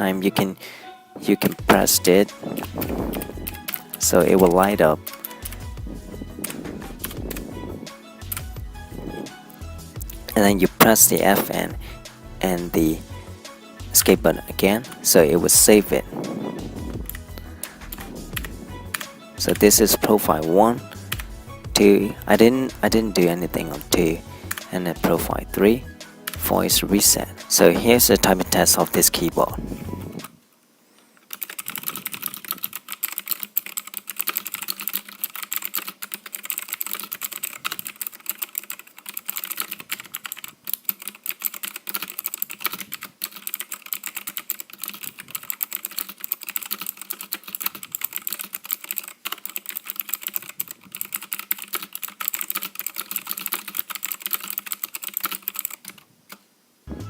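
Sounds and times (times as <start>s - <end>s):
fast clicky keyboard typing: 1.3s - 13.1s, 14.0s - 30.3s, 31.3s - 56.0s.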